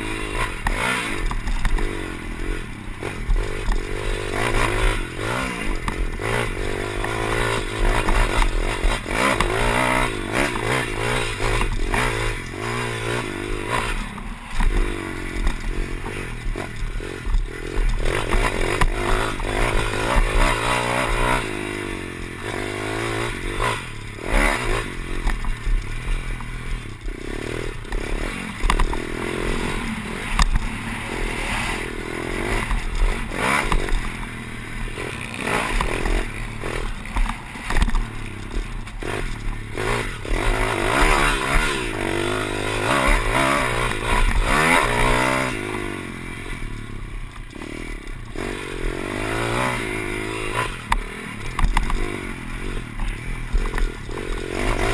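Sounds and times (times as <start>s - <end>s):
bike rattling and knocking: 0.0s - 54.9s
motorbike engine revving: 0.0s - 54.9s.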